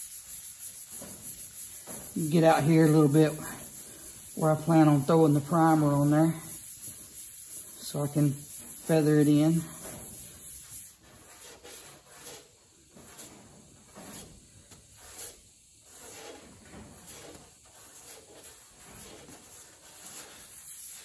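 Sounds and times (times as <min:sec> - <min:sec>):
sandpaper scratching by hand: 0:00.0 - 0:21.0.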